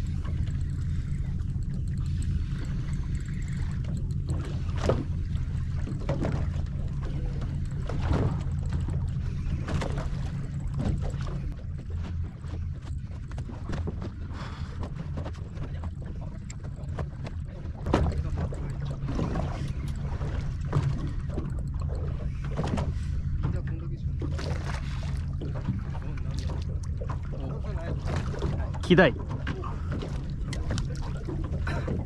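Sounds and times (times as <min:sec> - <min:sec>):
boat engine humming: 0:00.0 - 0:32.0
knocks and clicks on boat: 0:00.0 - 0:32.0.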